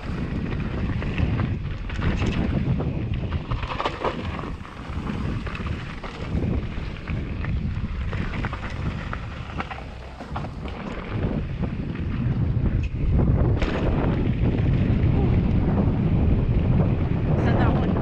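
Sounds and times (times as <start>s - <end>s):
bike clicks and rattles: 0.0s - 17.3s
wind buffeting microphone: 0.0s - 18.0s.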